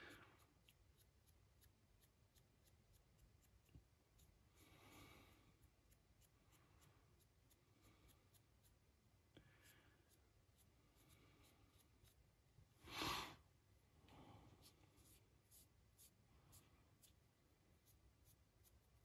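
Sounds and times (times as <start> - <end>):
paintbrush rustling on figure: 0.0 - 19.0.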